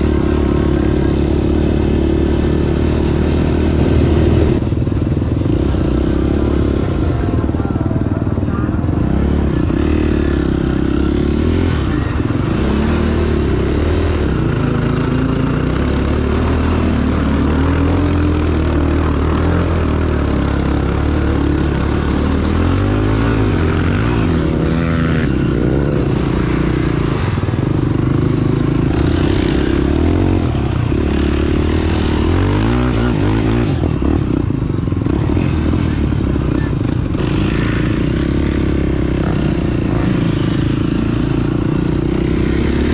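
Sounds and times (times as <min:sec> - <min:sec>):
off-road vehicle engine: 0:00.0 - 0:42.9.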